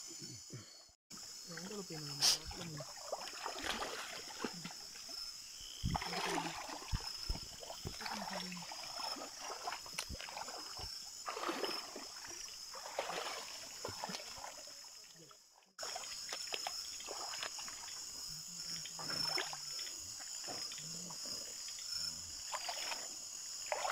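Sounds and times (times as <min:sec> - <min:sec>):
stream water trickling: 0:01.1 - 0:23.9
splashes in water: 0:01.4 - 0:21.6, 0:22.4 - 0:23.9.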